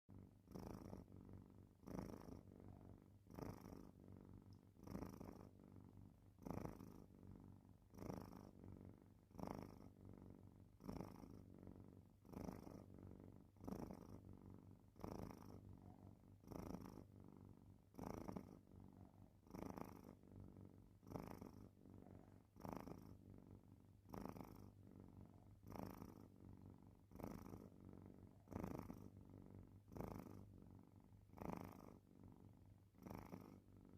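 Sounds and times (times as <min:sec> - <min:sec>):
cat snoring faintly: 0:00.1 - 0:33.9.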